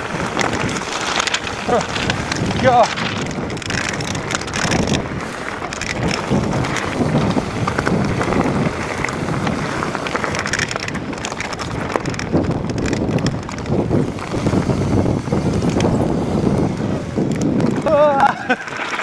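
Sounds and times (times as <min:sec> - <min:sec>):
bike rattles and knocks: 0:00.0 - 0:19.0
bike tyres running over stones: 0:00.0 - 0:19.0
wind noise on microphone: 0:00.0 - 0:19.0.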